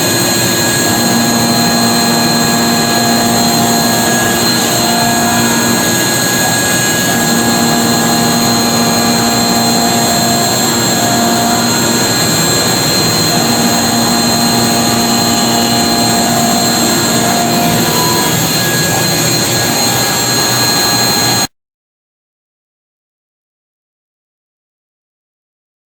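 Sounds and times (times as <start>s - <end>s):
low motor hums: 0.0s - 21.4s
machine high whine: 0.0s - 21.5s.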